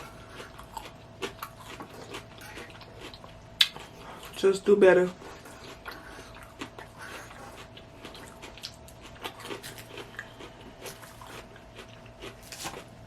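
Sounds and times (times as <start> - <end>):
person chewing salad: 0.0 - 13.0.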